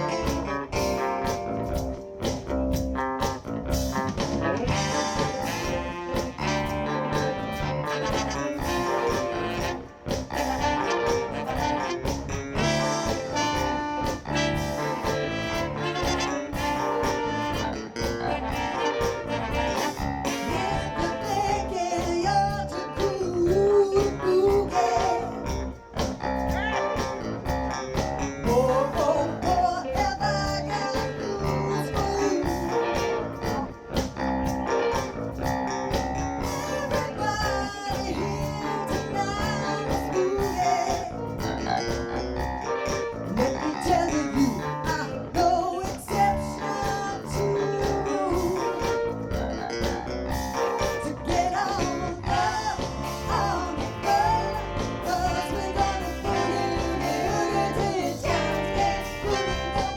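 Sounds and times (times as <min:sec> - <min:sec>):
lead guitar: 0:00.0 - 0:59.9
live blues band: 0:00.0 - 0:59.9.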